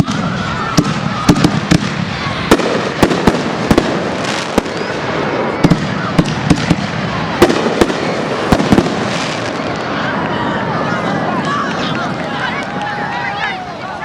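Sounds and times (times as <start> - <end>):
fireworks bangs: 0.0 - 13.6
steady wash of noise: 0.0 - 14.0.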